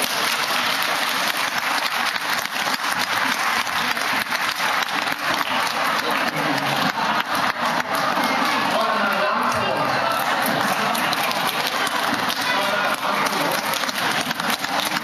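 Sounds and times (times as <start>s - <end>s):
audience applauding: 0.0s - 15.0s
crowd voices murmuring: 0.0s - 15.0s.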